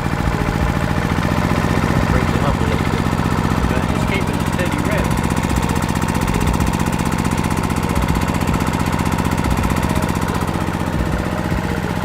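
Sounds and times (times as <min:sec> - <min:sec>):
portable generator running: 0:00.0 - 0:12.0.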